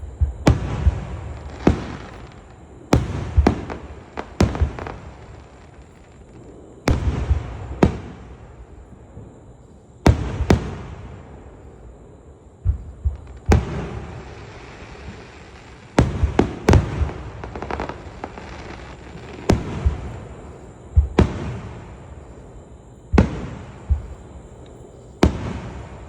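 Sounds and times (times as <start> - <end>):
fireworks bangs with rumbling echo: 0.0 - 9.4, 10.0 - 11.8, 12.6 - 22.4, 23.1 - 26.0.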